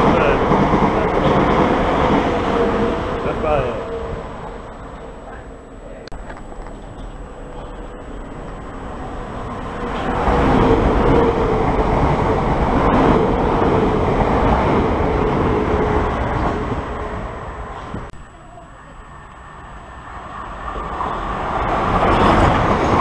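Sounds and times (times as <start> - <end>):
electric train rumbling past: 0.0 - 23.0.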